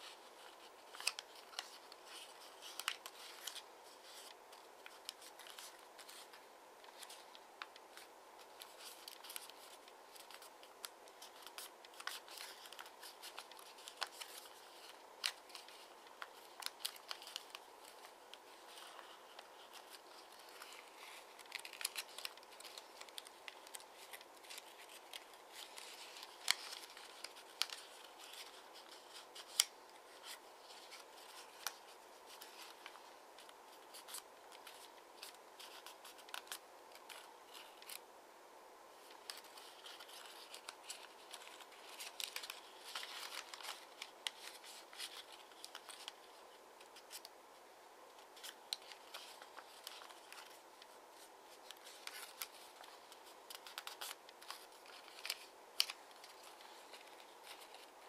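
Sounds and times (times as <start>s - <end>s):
paper being folded and creased: 0.0s - 38.0s, 39.0s - 47.4s, 48.2s - 58.0s.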